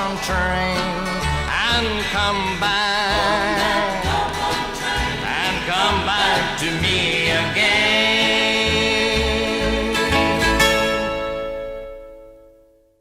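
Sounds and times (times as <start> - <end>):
man singing: 0.0 - 10.8
guitars: 0.0 - 12.8.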